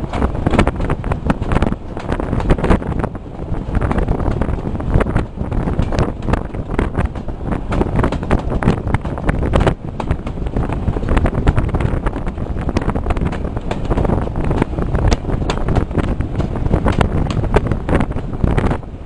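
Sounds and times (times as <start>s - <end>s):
train running on rails: 0.0s - 19.0s
wind buffeting microphone: 0.0s - 19.0s.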